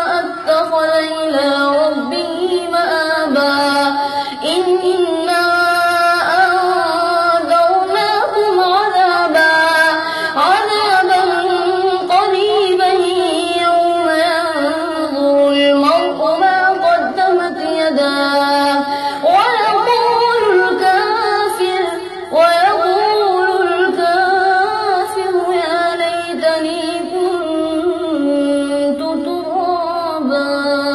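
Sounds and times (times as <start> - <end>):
boy chanting melodically: 0.0 - 30.9.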